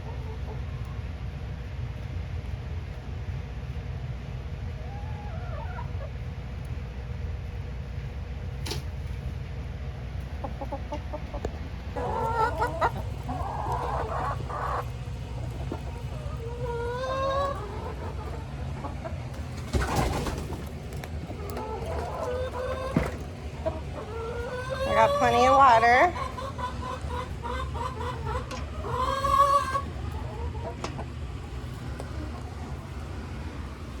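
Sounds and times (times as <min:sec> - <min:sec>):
hens clucking: 0:00.0 - 0:01.3, 0:04.6 - 0:07.0, 0:10.0 - 0:34.0
steady low rumble: 0:00.0 - 0:04.9, 0:05.8 - 0:34.0.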